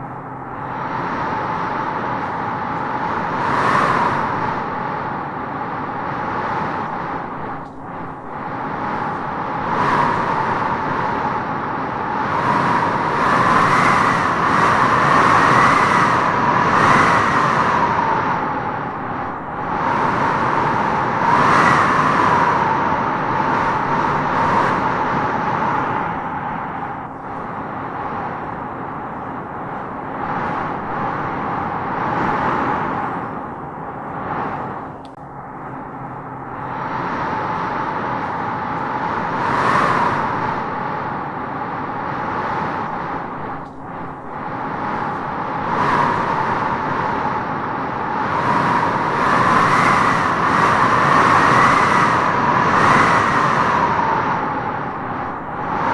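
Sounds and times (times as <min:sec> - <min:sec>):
wind howling in gusts: 0:00.0 - 0:55.9.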